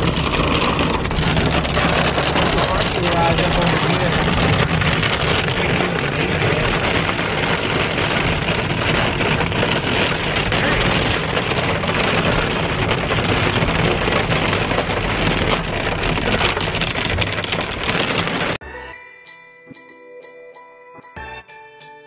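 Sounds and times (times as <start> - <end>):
car road hum: 0.0 - 18.6
hail and rain on a car roof: 0.0 - 18.6.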